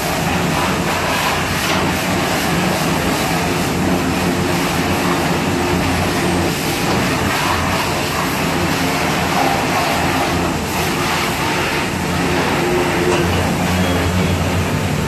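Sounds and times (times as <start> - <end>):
pressure washer motor drone: 0.0 - 15.0
water jet spraying: 0.0 - 15.0.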